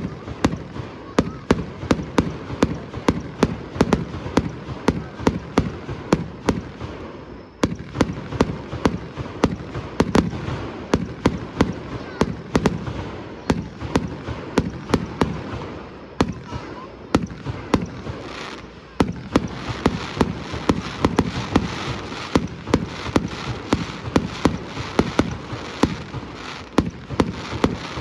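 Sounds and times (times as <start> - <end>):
fireworks bangs: 0.0 - 28.0
fireworks crackle: 0.0 - 28.0.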